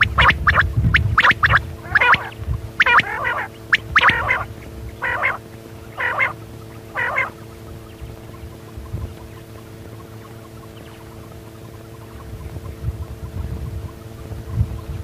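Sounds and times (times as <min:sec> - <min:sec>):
quail calling: 0:00.0 - 0:12.8
steady low hum: 0:00.0 - 0:15.0.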